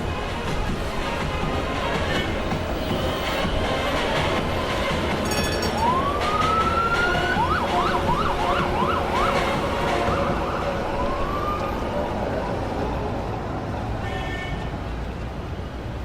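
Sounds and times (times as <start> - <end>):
traffic noise: 0.0 - 16.0
emergency vehicle siren: 0.1 - 13.3.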